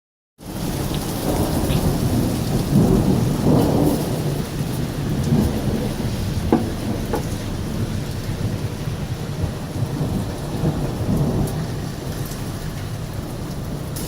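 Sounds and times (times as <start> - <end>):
steady rain: 0.4 - 14.0
thunder rumbling: 0.5 - 14.0.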